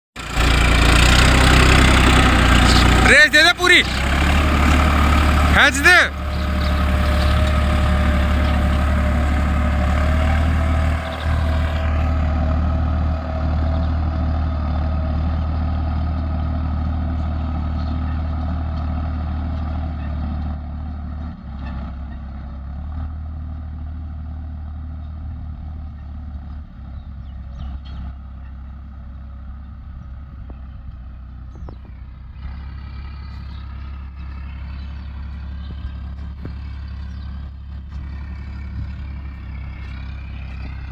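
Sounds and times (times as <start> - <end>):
tractor diesel engine running hard: 0.2 - 40.9.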